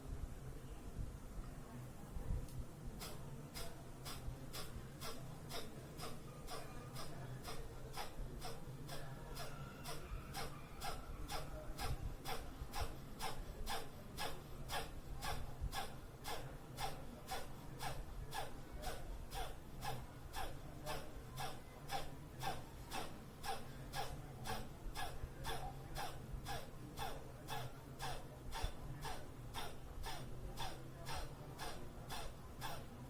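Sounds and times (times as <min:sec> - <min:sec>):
rapid forceful breathing: 0:02.9 - 0:33.0.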